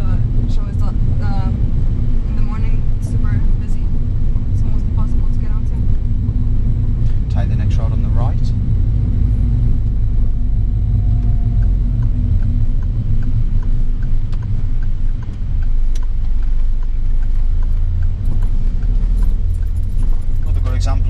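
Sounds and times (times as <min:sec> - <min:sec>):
engine and tyre rumble: 0:00.0 - 0:21.0
faint regular ticking: 0:00.2 - 0:21.0.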